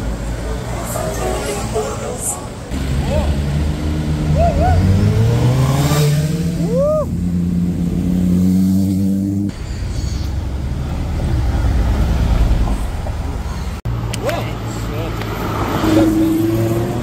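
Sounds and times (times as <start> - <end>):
car engines running: 0.0 - 17.0
noisy engine rumble: 0.0 - 17.0.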